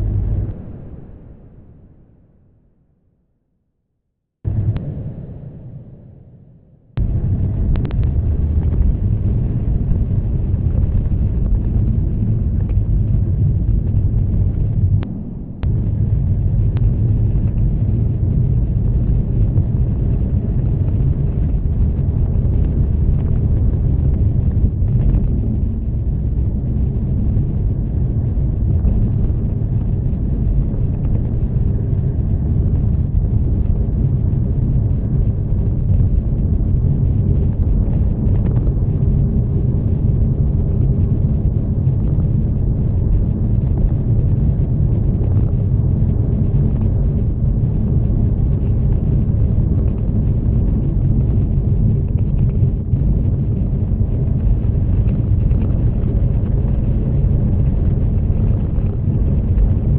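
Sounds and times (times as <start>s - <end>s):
car engine and tyre noise: 0.0s - 1.8s, 7.0s - 59.9s.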